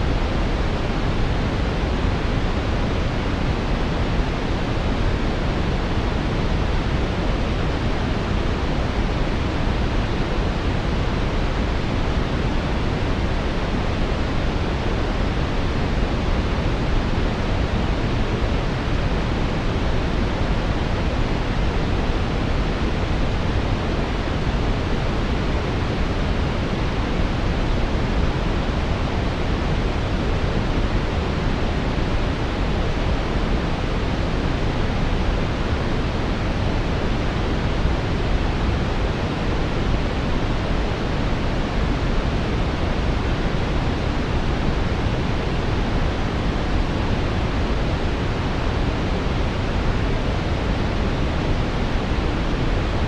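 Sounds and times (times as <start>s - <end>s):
brown noise hiss: 0.0s - 53.0s.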